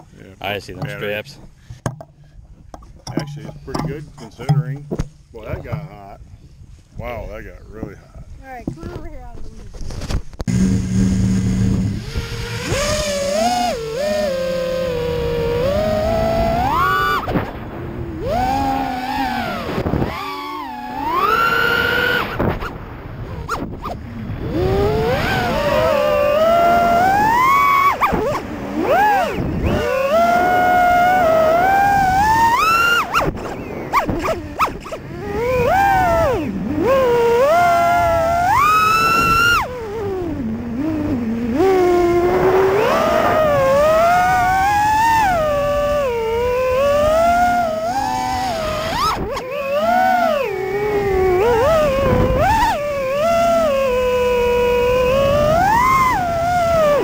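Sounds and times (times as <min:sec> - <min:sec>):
drone motors whining: 0:10.4 - 0:57.0.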